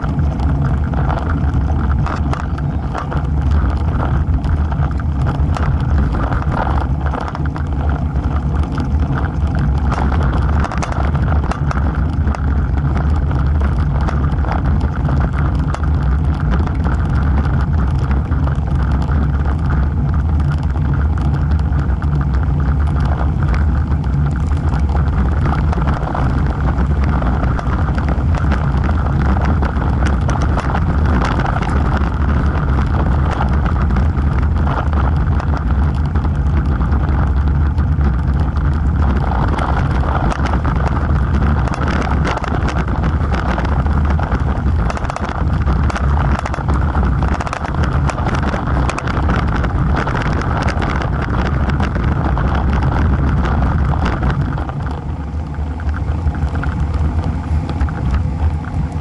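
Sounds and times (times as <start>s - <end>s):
bike tyres rolling on asphalt: 0.0s - 59.0s
wind buffeting microphone: 0.0s - 59.0s.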